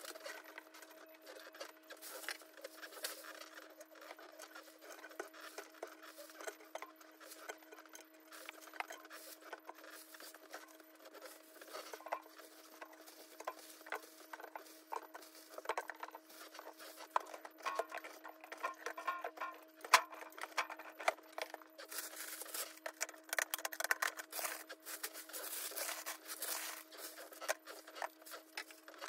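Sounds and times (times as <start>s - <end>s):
groceries clicking and rustling: 0.0s - 29.0s
steady low hum: 0.0s - 29.0s.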